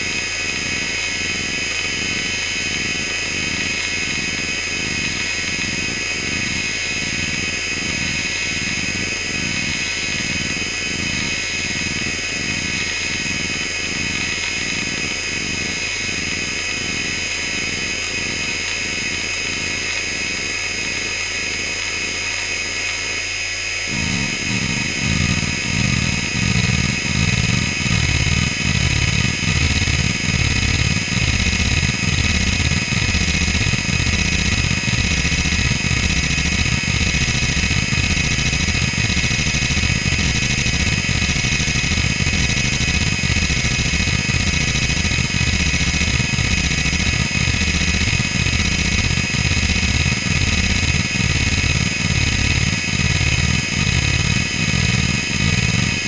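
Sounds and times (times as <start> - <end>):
hard drive head seek buzzing: 0.0 - 56.0
hard drive spindle whine: 0.0 - 56.0.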